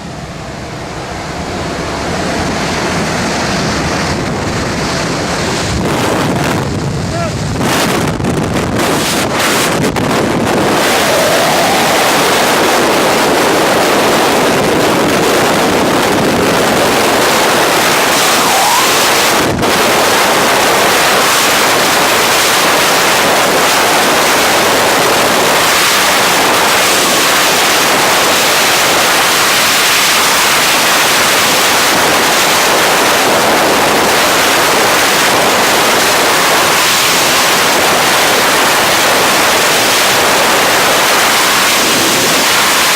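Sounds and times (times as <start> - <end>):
freefall wind buffeting microphone: 0.0 - 42.9.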